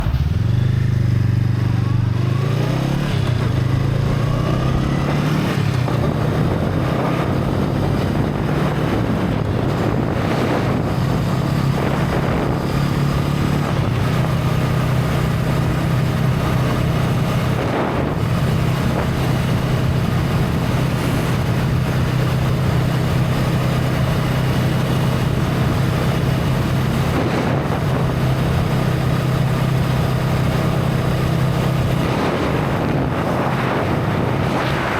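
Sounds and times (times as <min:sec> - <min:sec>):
motorcycle engine: 0:00.0 - 0:34.9
wind rushing over microphone: 0:00.0 - 0:34.9.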